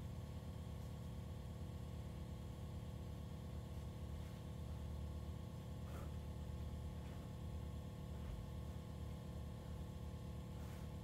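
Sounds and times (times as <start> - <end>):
quiet low hum: 0.0 - 11.0.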